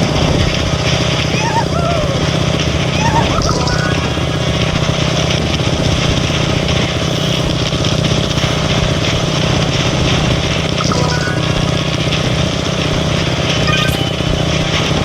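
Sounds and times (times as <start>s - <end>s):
motorcycle engine drone: 0.0s - 15.0s.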